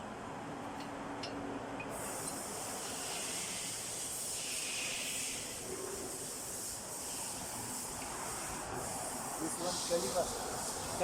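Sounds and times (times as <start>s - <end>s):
steady high hiss: 1.9s - 11.0s.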